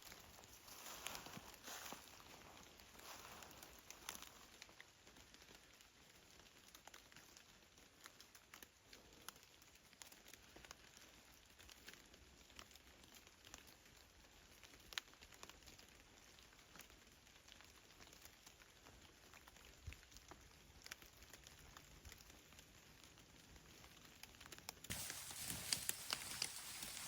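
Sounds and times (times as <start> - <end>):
faint ticks and patter: 0.0 - 27.0.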